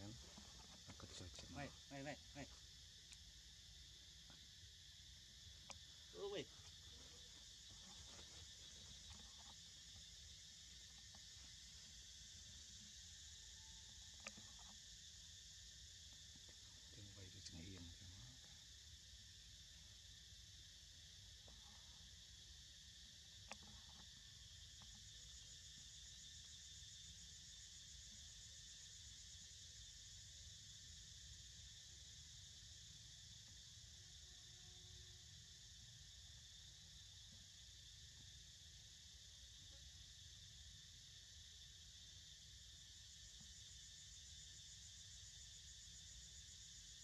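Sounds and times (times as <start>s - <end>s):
insects chorus: 0.0s - 47.0s.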